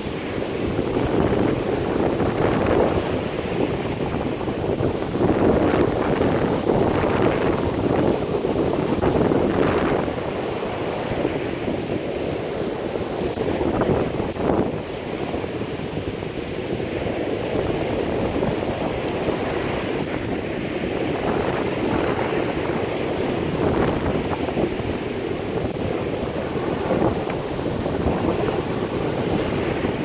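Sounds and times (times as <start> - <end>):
heavy surf breaking: 0.0 - 30.0
strong wind buffeting microphone: 0.0 - 30.0.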